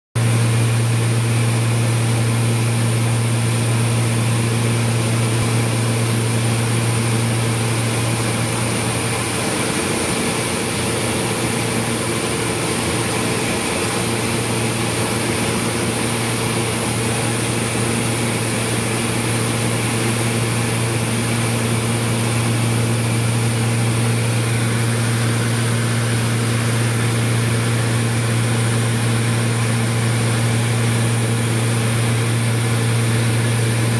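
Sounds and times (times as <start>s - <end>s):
aircraft engine droning: 0.2s - 33.9s.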